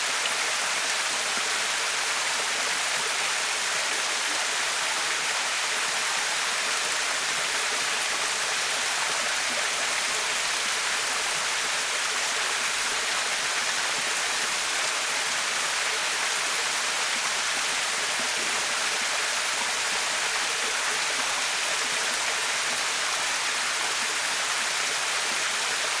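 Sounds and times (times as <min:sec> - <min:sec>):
waterfall splashing into pool: 0:00.0 - 0:26.0.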